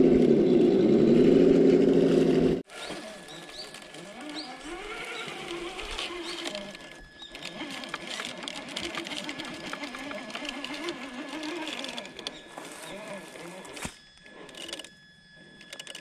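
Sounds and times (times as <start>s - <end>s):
tyres scraping on rock: 0.0s - 14.0s
rc car motor whining: 0.0s - 16.0s.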